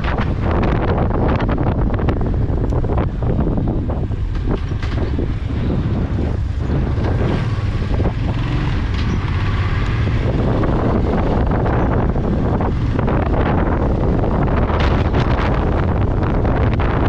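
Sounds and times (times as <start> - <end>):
motorcycle engine running: 0.0 - 17.0
road noise: 0.0 - 17.0
wind buffeting microphone: 0.0 - 17.0.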